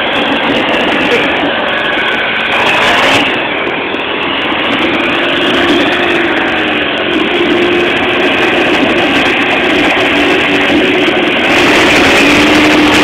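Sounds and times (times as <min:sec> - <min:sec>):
atv engine running: 0:00.0 - 0:13.0
loud rushing noise: 0:00.0 - 0:13.0.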